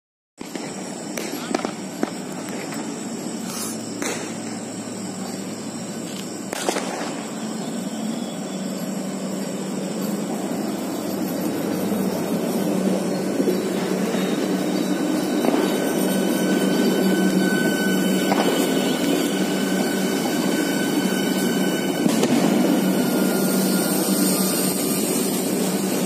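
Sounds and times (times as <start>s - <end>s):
electric train hum: 0.4s - 26.0s.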